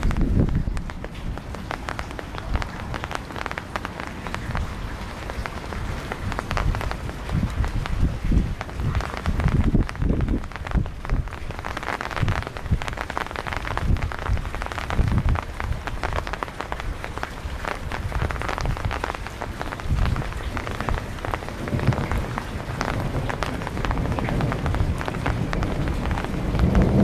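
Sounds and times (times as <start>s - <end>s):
heavy rain falling: 0.0s - 27.0s
low thunder rumble: 0.0s - 27.0s.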